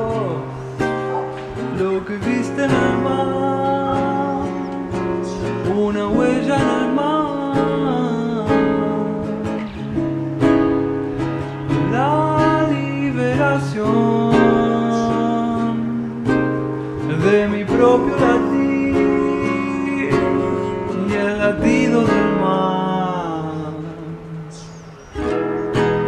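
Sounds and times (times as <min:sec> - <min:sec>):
man singing: 0:00.0 - 0:10.1, 0:11.2 - 0:24.9
acoustic guitar: 0:00.0 - 0:26.0.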